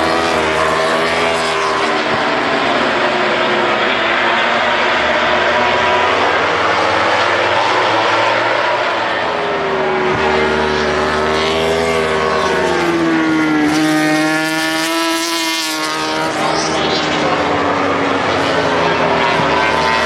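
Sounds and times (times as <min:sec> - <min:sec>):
racing motorcycles passing: 0:00.0 - 0:20.0.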